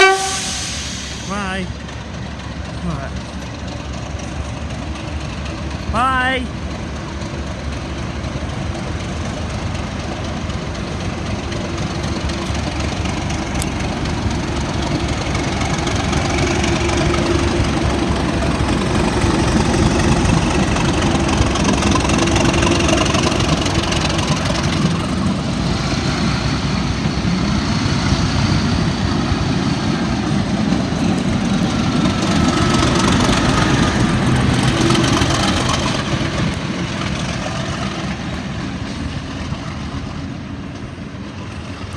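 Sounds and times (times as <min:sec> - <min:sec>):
train engine droning: 0:00.0 - 0:41.9.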